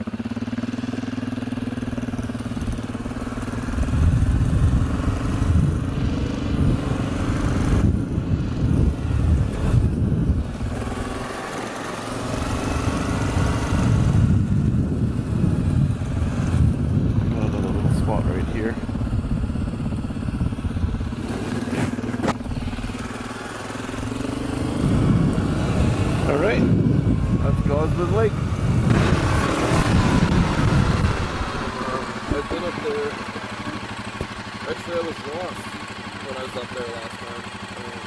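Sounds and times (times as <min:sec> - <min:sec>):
quad bike engine: 0:00.0 - 0:38.0.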